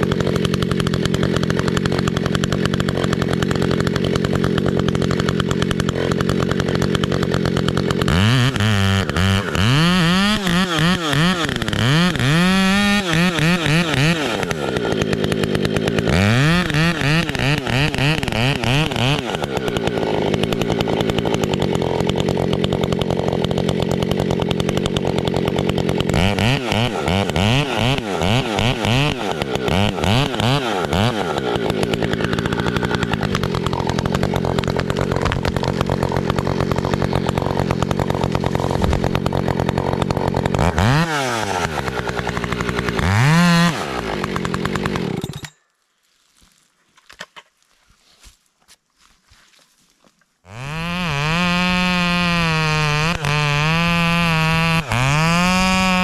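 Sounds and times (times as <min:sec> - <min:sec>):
chainsaw revving: 0:00.0 - 0:45.6, 0:50.4 - 0:56.0.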